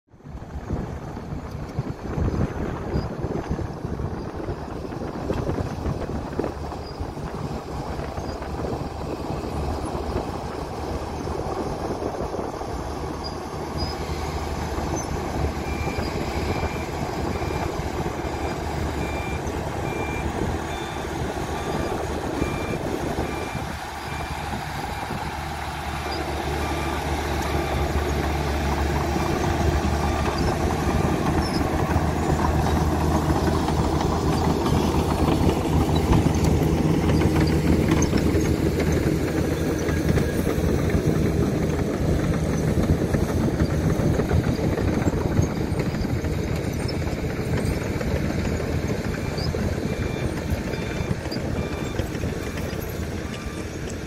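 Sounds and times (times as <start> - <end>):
diesel engines running: 0.1 - 54.0
truck reversing beeper: 6.4 - 54.0.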